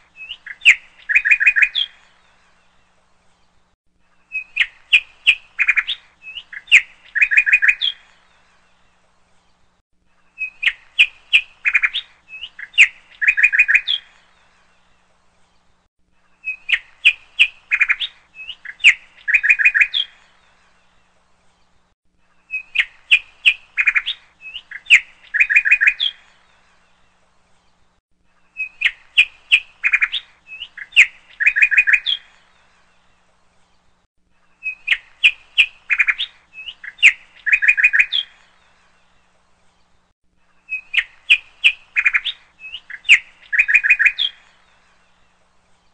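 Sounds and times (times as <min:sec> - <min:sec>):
bird chirps: 0:00.0 - 0:45.9.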